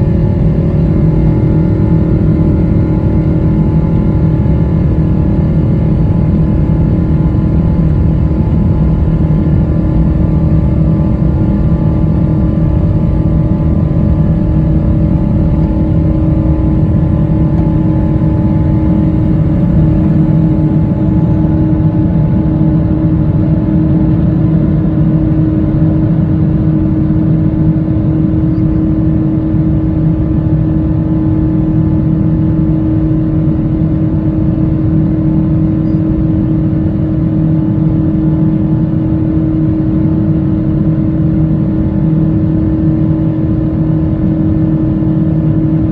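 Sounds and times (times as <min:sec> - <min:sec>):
jet engines deep rumble with whine: 0:00.0 - 0:45.9.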